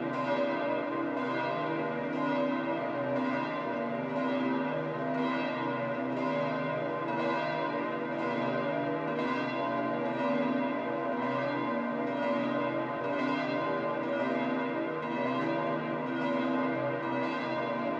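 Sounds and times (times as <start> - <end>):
church bells pealing: 0.0 - 17.9.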